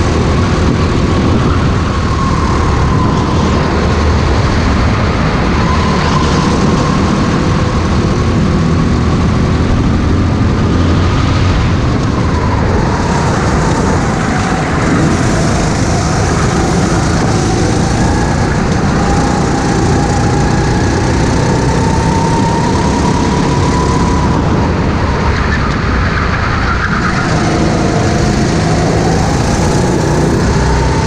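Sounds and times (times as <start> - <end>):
go-kart engine running hard: 0.0 - 31.0.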